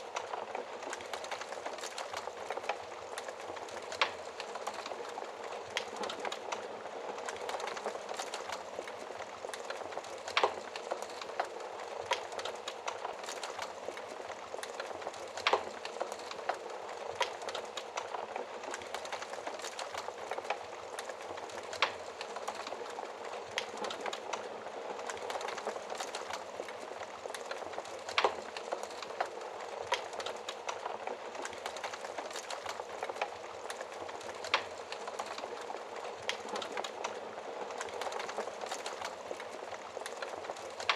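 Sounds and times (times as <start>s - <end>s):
fire crackling in fireplace: 0.0s - 40.9s
fire popping: 0.0s - 40.9s.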